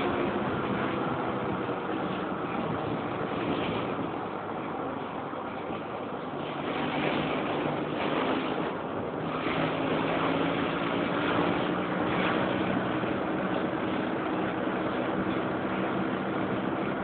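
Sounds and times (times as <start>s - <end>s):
buggy engine running: 0.0s - 17.0s
steady rushing noise: 0.0s - 17.0s.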